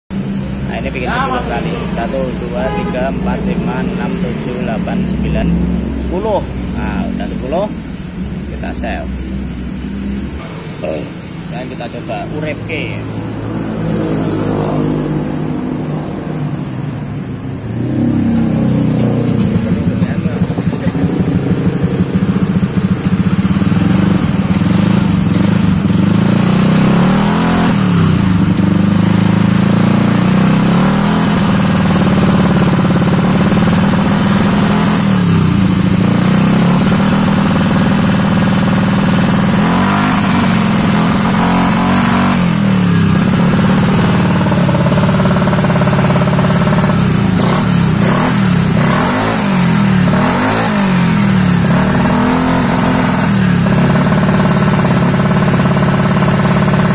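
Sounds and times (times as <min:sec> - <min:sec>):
scooter engine revving: 0:00.1 - 0:56.9.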